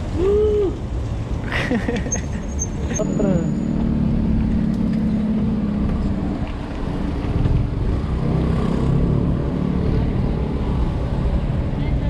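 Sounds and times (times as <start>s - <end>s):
car engines humming: 0.0s - 12.0s.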